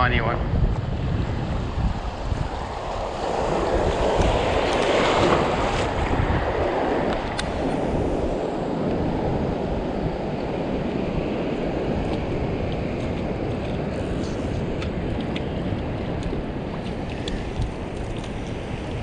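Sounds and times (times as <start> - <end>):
wind buffeting microphone: 0.0 - 19.0
rushing water: 1.0 - 19.0.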